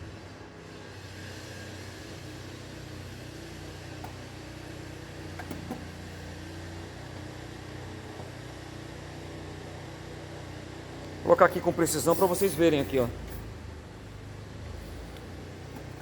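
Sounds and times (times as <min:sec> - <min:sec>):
engine idling: 0:02.9 - 0:16.0.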